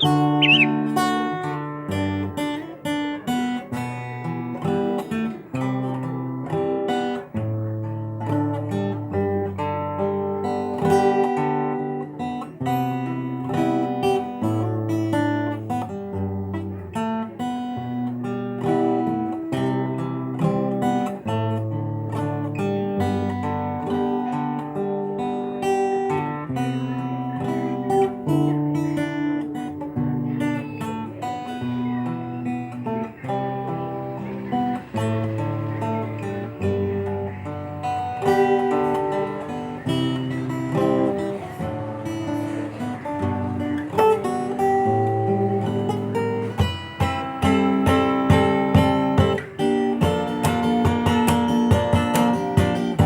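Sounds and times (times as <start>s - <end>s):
fingerstyle acoustic guitar: 0.0s - 53.0s.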